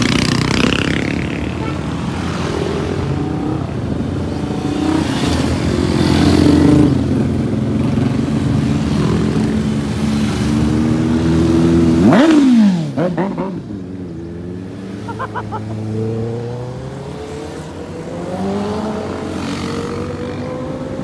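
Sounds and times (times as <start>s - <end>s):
motorcycles riding past: 0.0s - 21.0s.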